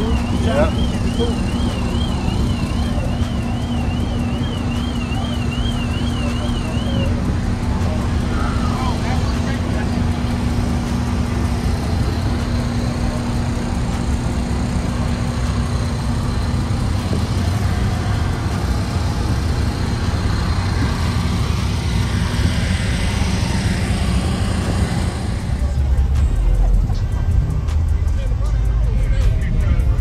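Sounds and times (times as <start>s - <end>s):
car engine low rumble: 0.0s - 30.0s.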